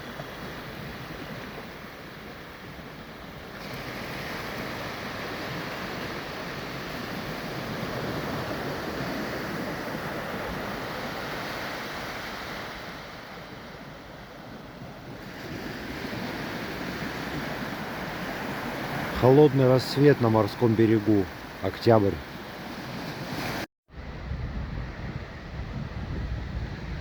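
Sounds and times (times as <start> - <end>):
sea waves washing onto shore: 0.0 - 23.7.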